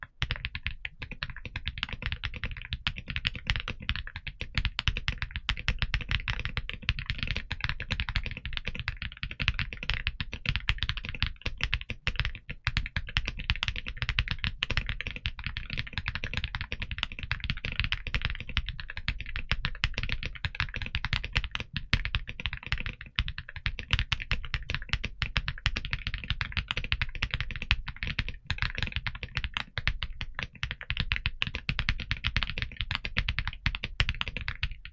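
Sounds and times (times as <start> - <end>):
typing on mechanical keyboard: 0.1 - 34.9.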